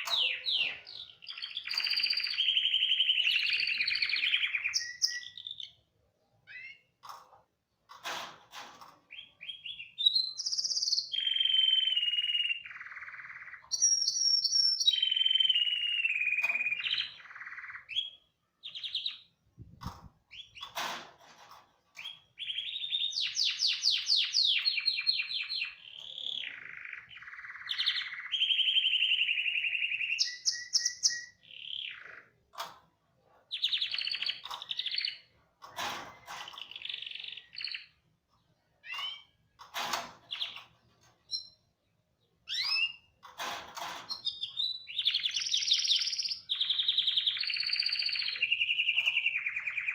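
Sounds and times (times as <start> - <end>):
canary singing: 0.0 - 5.8, 6.4 - 7.0, 9.1 - 19.4, 22.0 - 32.4, 33.5 - 35.4, 36.2 - 38.1, 38.8 - 39.5, 40.3 - 43.2, 44.1 - 49.9.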